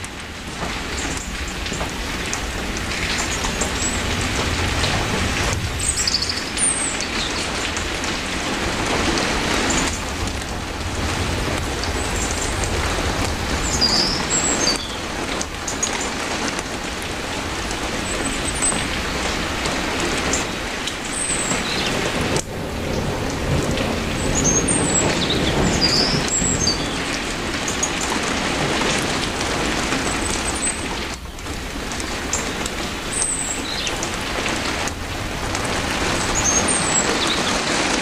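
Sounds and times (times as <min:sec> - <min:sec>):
rain falling on foliage: 0:00.0 - 0:38.0.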